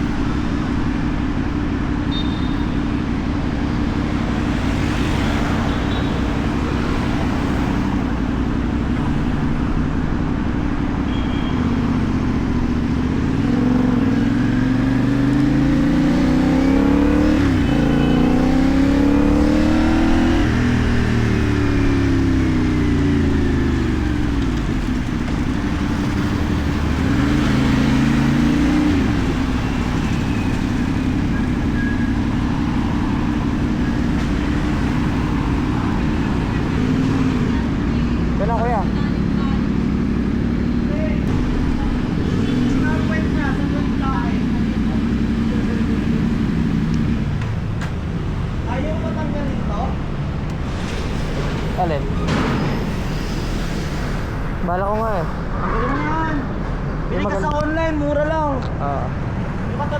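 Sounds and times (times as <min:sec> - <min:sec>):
motorcycle engine revving: 0:00.0 - 0:57.3.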